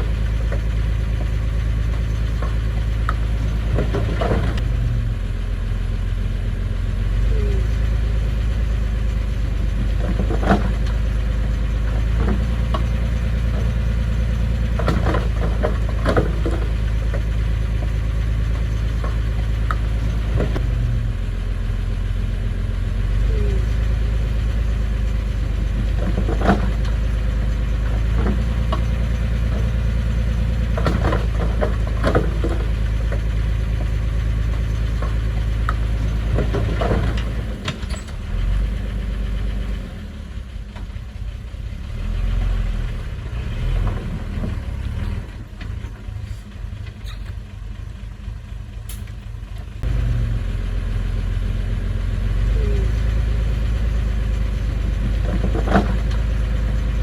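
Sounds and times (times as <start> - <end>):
heavy equipment engine running: 0.0 - 57.0.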